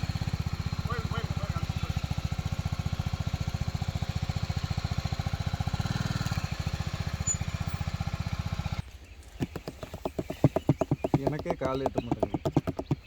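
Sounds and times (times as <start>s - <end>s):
motorcycle engine thudding: 0.0s - 13.0s.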